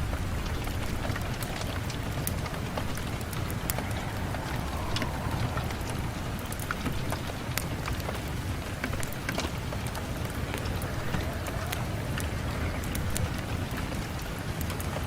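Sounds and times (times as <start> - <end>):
low rumble: 0.0 - 13.7
rain drops tapping on window: 0.0 - 15.0
rain hiss: 0.0 - 15.0.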